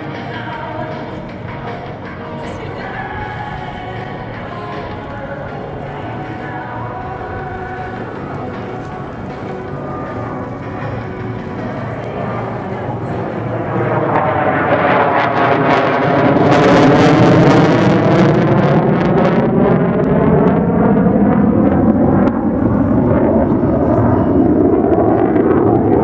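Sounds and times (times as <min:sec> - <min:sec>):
jet flying overhead: 0:00.0 - 0:26.0.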